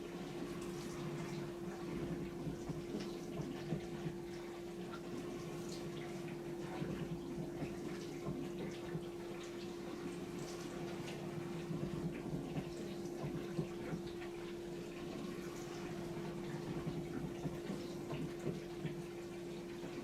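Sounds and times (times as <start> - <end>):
dishwasher pump hum: 0.0 - 20.0.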